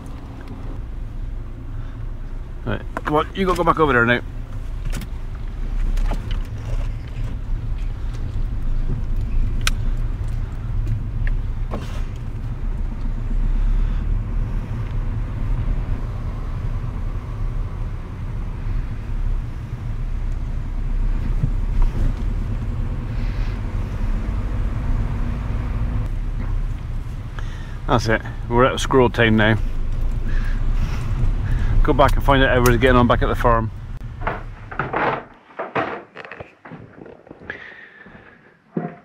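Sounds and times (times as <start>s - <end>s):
road and engine rumble in car: 0.0s - 35.4s.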